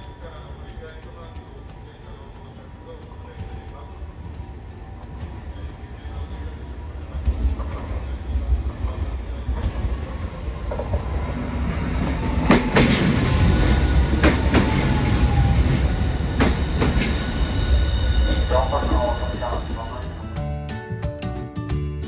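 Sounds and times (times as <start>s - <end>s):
wheels clacking over rail joints: 0.0s - 19.0s
tram rumble: 0.0s - 20.9s.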